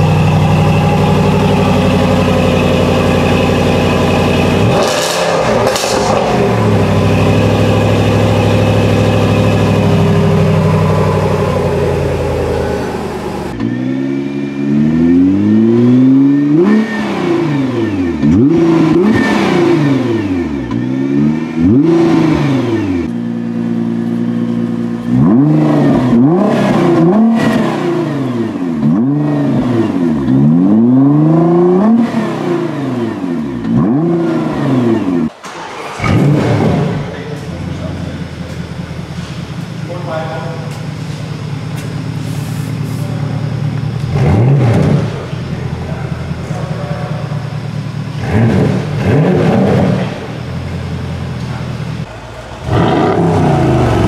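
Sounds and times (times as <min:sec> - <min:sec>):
car engine revving: 0:00.0 - 0:54.0
sports car engine blipped: 0:00.0 - 0:54.0.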